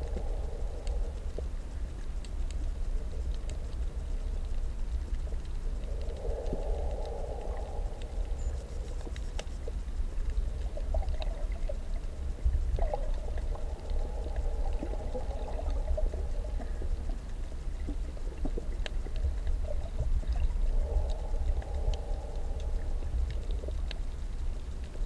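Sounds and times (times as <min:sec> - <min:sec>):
faint clicks and crackles: 0:00.0 - 0:25.0
underwater water rumble: 0:00.0 - 0:25.0.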